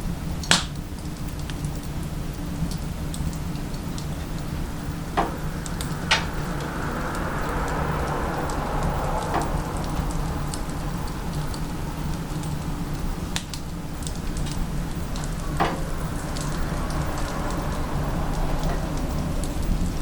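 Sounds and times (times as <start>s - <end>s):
wood fire crackling in stove: 0.0s - 20.0s.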